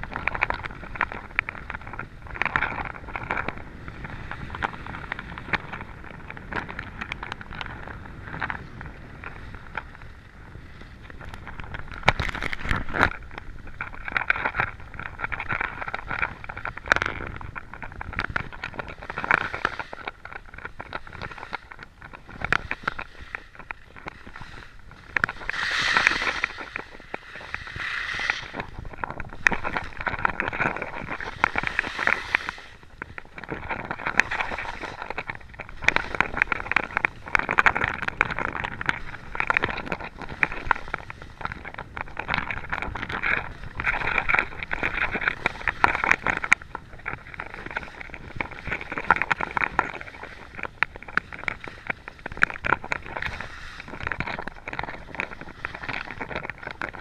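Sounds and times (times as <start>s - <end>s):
skis scraping over snow: 0.0s - 57.0s
wind buffeting microphone: 0.0s - 57.0s.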